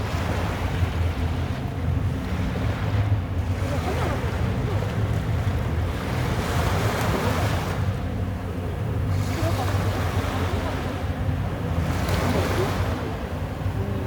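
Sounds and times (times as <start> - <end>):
sea waves washing onto beach: 0.0 - 14.0.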